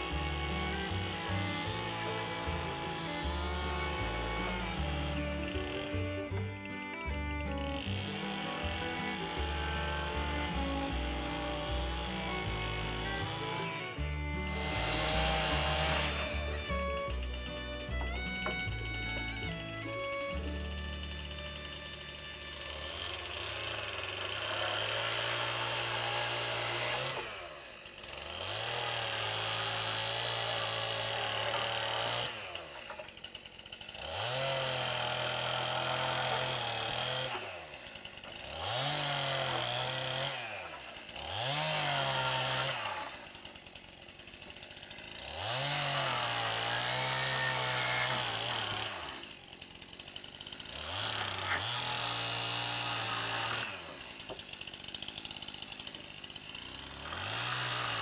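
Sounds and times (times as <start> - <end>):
power saw cutting wood: 0.0 - 58.0.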